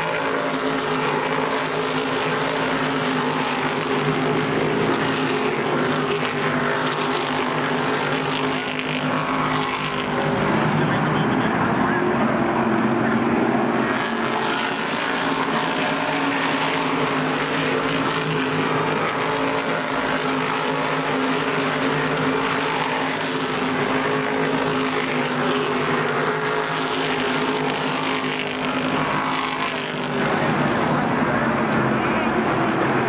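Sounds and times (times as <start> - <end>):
race car engines at speed: 0.0 - 33.0.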